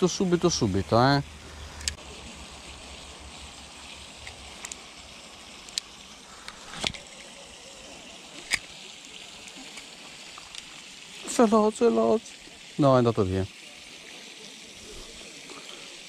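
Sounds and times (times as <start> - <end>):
faint outdoor background: 0.0 - 16.0.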